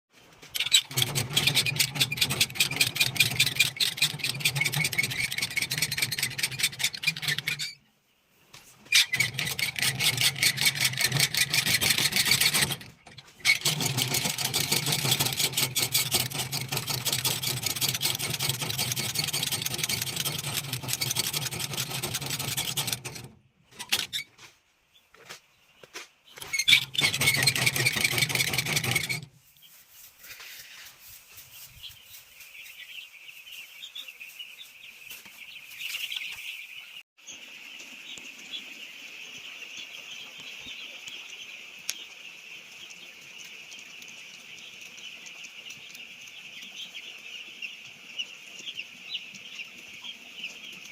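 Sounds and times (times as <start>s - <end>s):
chicks peeping: 0.4s - 50.9s.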